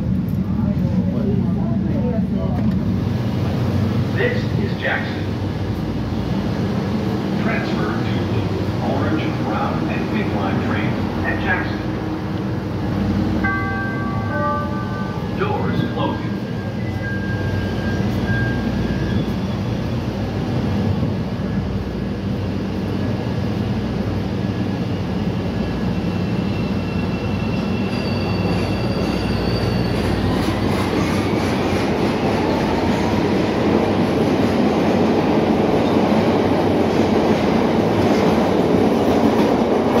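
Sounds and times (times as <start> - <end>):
subway train humming: 0.0 - 40.0.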